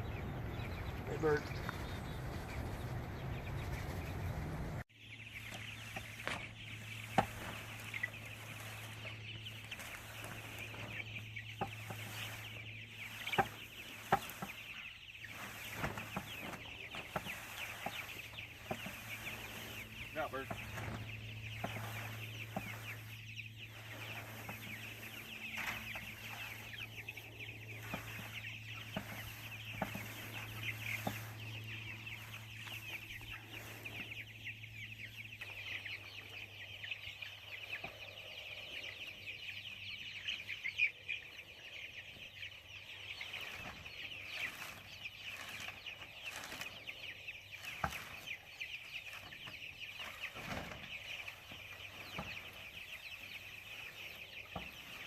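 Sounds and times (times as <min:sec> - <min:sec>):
chickens cheeping and clucking: 0:00.0 - 0:55.0.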